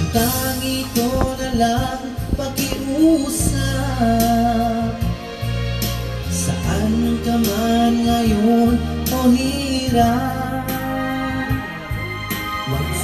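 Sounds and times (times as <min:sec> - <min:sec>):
song with singing: 0:00.0 - 0:13.0.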